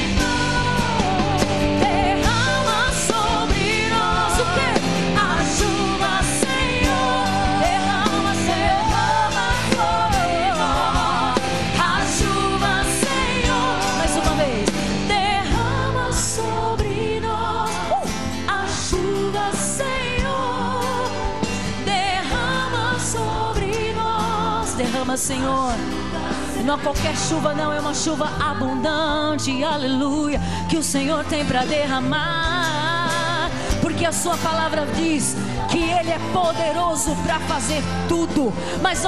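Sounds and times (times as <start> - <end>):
band with electric guitar and keyboard: 0.0 - 39.0
woman singing with vibrato: 0.0 - 39.0.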